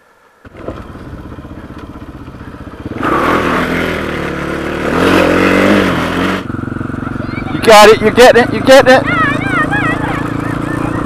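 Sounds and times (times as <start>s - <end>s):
motorcycle engine revving: 0.4s - 11.0s.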